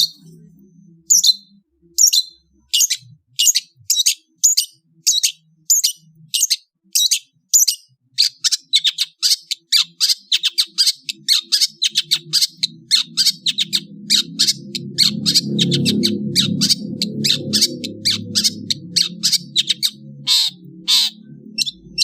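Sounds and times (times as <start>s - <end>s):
bird giving harsh calls: 1.1s - 22.0s.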